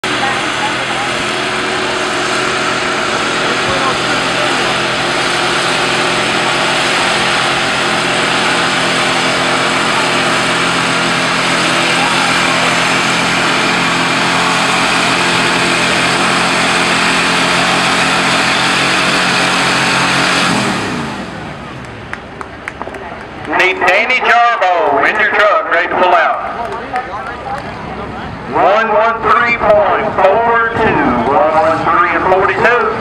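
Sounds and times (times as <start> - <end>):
truck engine running hard: 0.0 - 33.0.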